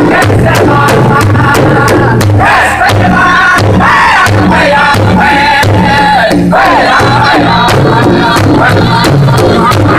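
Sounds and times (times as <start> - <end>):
large drum beating: 0.0 - 9.9
men singing in unison: 0.0 - 9.9.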